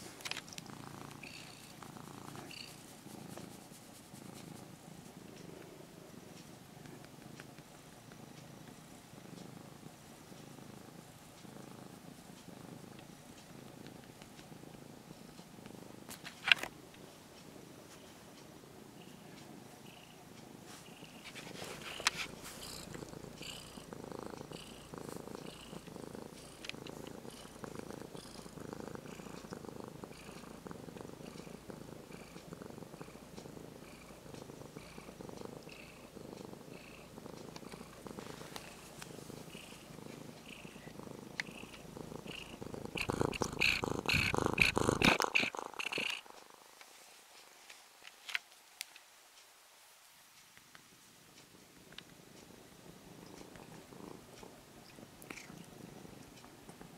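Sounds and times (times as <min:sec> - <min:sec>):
cat purring: 0:00.0 - 0:48.0, 0:50.7 - 0:56.9.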